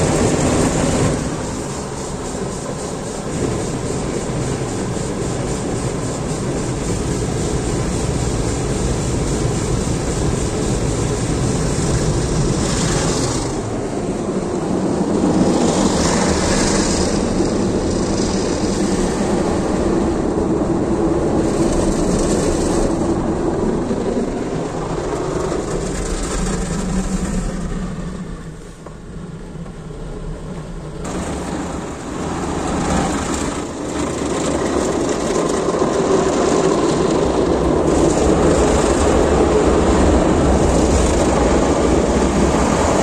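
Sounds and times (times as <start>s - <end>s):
water spraying: 0.0s - 27.7s, 31.0s - 43.0s
car wash machine running: 0.0s - 43.0s.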